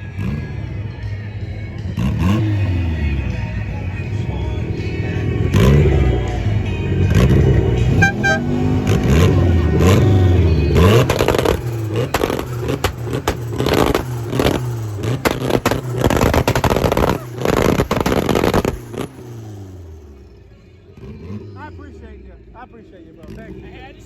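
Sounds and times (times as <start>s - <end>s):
car engine revving: 0.0s - 24.0s
exhaust bangs and crackles: 0.0s - 24.0s.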